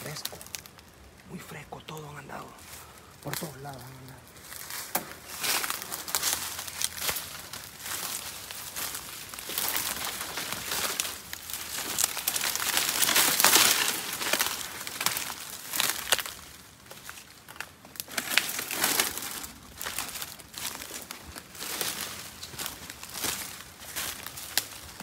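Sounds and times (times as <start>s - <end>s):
footsteps crunching dry leaves: 0.0s - 25.0s.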